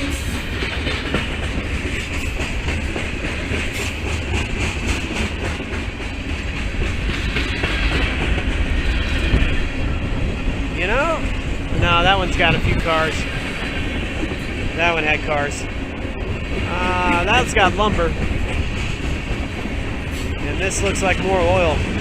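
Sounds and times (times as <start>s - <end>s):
train cars clicking over rail joints: 0.0s - 22.0s
train wheels rumbling on rail: 0.0s - 22.0s.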